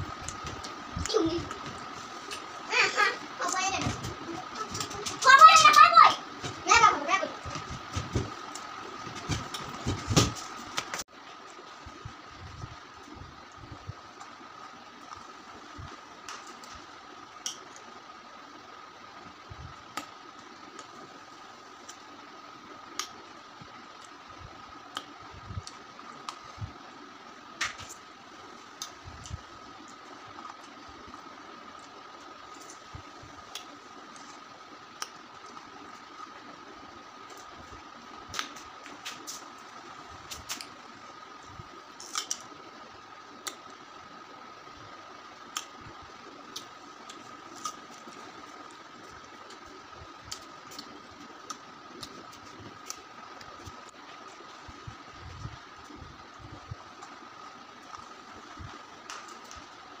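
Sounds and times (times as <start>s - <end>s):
room hum: 0.0s - 60.0s.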